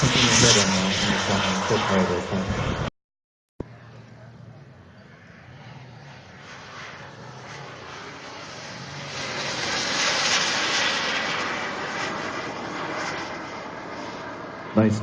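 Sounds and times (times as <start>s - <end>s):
model jet turbine passing overhead: 0.0s - 2.9s, 3.7s - 15.0s.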